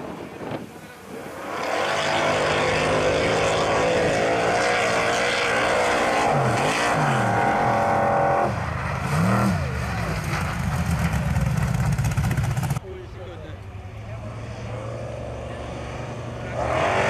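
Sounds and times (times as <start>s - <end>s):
racing engine revving: 1.2s - 12.8s, 14.2s - 17.0s.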